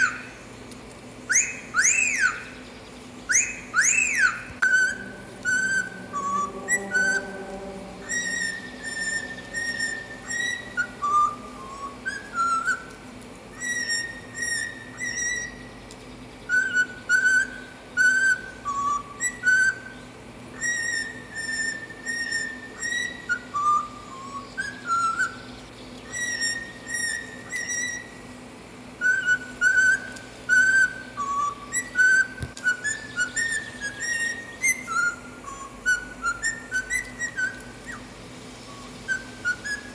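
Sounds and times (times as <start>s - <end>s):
whistled melody: 1.3s - 2.6s, 3.3s - 15.7s, 16.5s - 20.0s, 20.6s - 28.2s, 29.0s - 38.1s, 38.7s - 39.9s.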